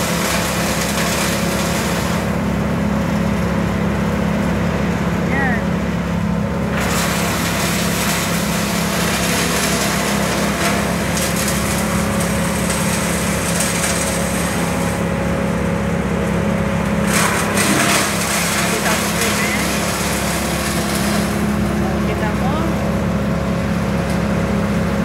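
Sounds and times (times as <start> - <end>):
wood chipper engine droning: 0.0 - 25.0.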